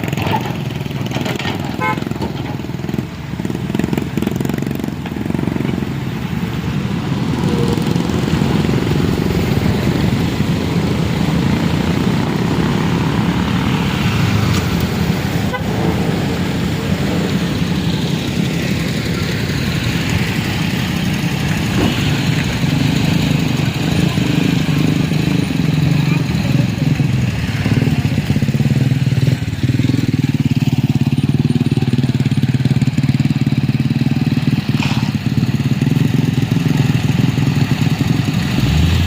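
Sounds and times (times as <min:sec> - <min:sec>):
vehicle engines rumbling: 0:00.0 - 0:39.0.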